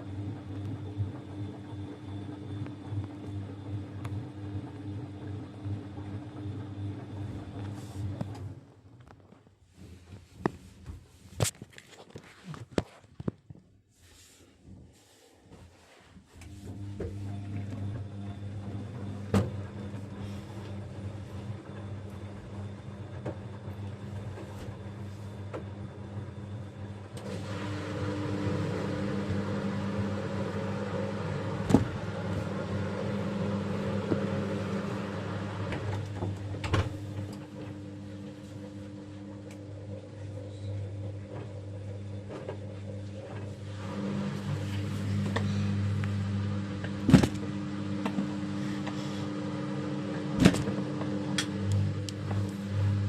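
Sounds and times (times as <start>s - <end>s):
washing machine motor hum: 0.0s - 11.3s, 14.1s - 53.0s.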